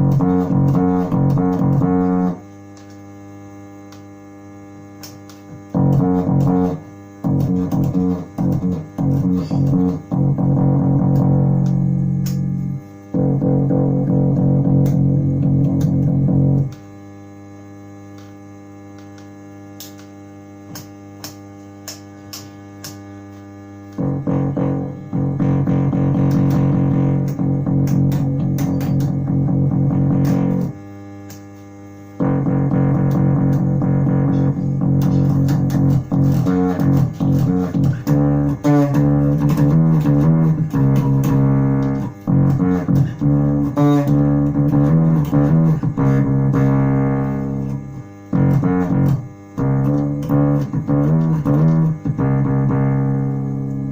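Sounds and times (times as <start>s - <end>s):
distorted electric bass: 0.0s - 53.9s
steady electrical hum: 0.0s - 53.9s.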